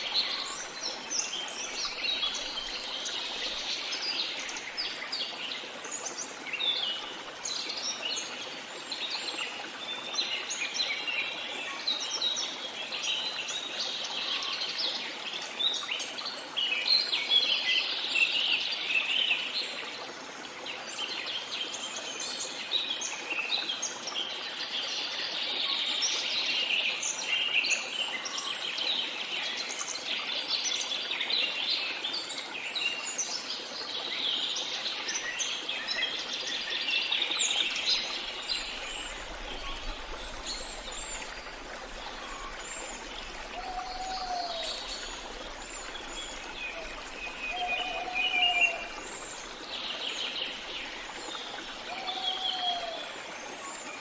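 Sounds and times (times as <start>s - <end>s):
songbirds chirping: 0.0s - 20.1s, 20.7s - 54.0s.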